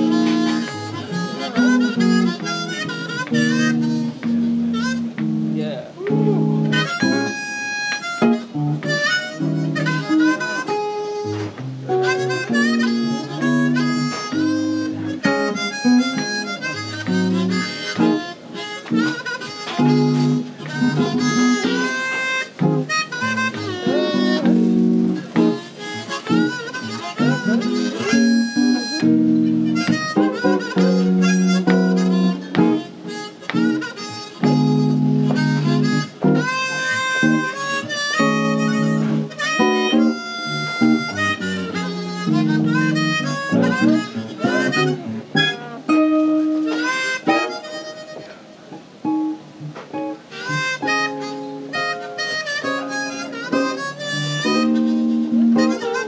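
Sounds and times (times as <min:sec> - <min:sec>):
guitar chords: 0:00.0 - 0:56.0
harmonica melody: 0:00.0 - 0:56.0.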